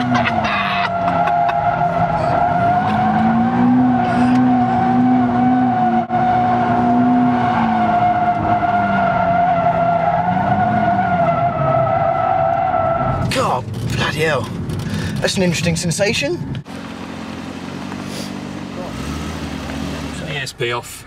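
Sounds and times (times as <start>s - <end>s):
car engine revving: 0.0s - 15.8s, 16.4s - 21.0s.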